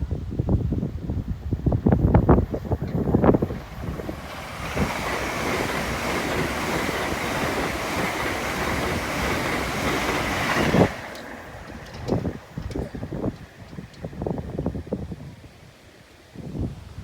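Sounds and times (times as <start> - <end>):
train passing at speed: 1.2 - 16.3.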